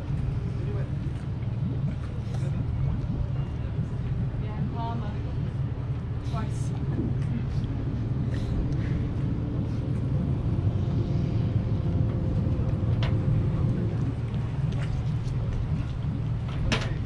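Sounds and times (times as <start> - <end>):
boat engines idling: 0.0 - 17.0.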